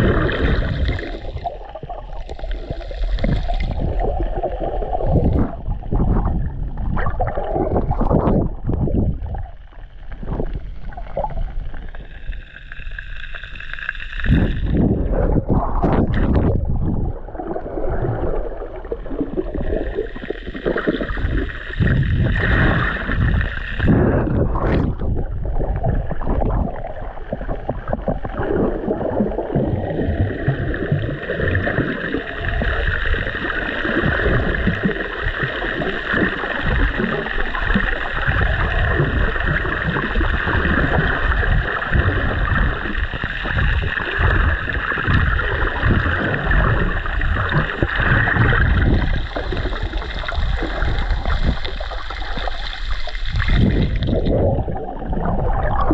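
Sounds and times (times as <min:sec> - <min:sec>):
muffled underwater water rushing: 0:00.0 - 0:55.9.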